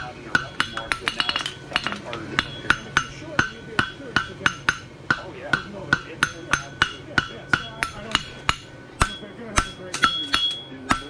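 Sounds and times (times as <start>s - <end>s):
hammer striking steel on anvil: 0.0s - 11.0s.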